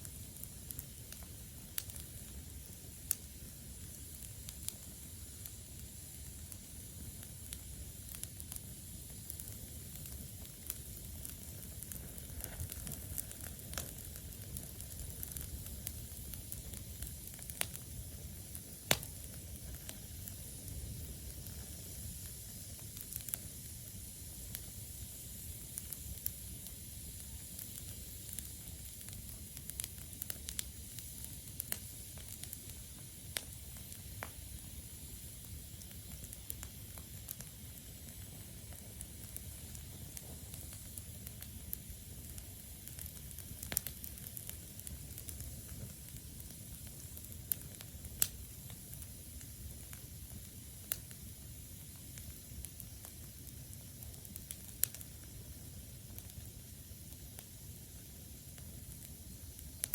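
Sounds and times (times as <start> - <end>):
campfire hissing: 0.0 - 59.9
fire crackles and pops: 0.0 - 59.9.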